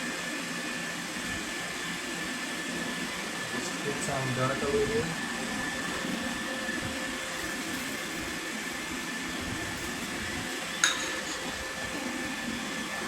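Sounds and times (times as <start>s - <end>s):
robot vacuum motor hum with whine: 0.0s - 13.0s.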